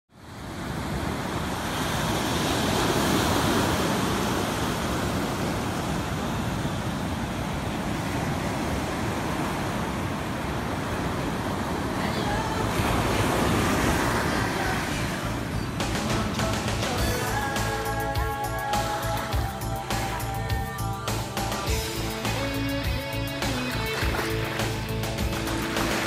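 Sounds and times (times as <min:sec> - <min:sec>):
waves breaking on a beach: 0:00.1 - 0:26.0.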